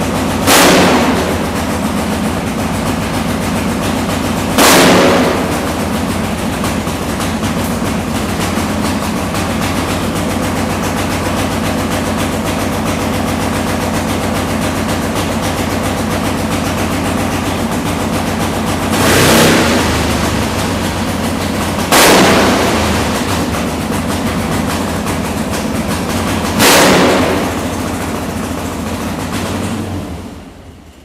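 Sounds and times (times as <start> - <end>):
motorcycle engine idling: 0.0 - 31.0
motorcycle engine revving: 0.0 - 31.0.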